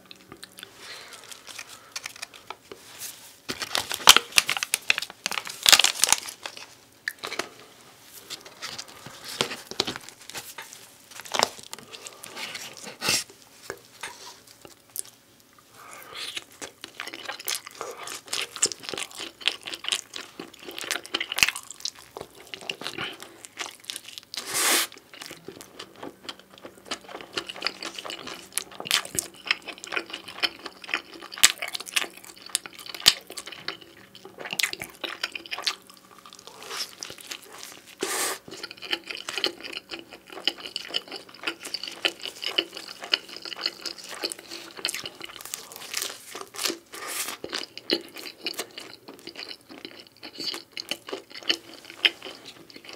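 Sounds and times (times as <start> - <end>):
crunching crust: 0.2 - 15.2, 15.8 - 52.9.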